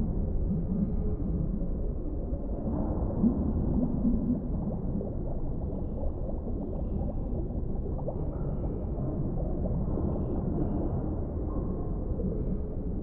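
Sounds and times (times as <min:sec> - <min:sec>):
muffled underwater rumble: 0:00.0 - 0:13.0
water bubbling and gurgling: 0:00.0 - 0:13.0.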